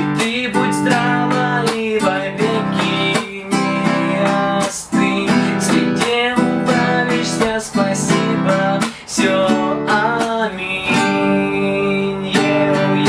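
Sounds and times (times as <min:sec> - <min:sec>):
classical guitar strumming: 0:00.0 - 0:13.0.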